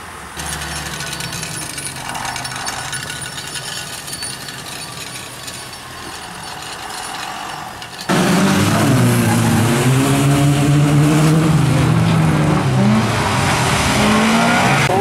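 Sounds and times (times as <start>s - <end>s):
race car engines revving: 0.1s - 15.0s.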